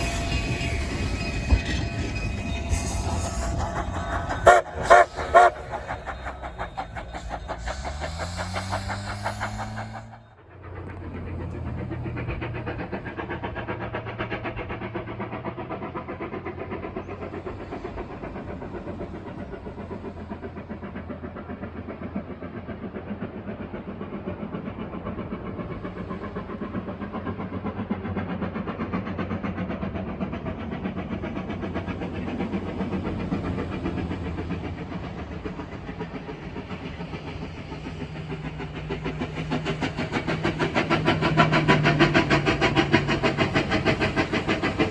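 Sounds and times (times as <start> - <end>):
steam locomotive exhaust beating: 0.0 - 44.9.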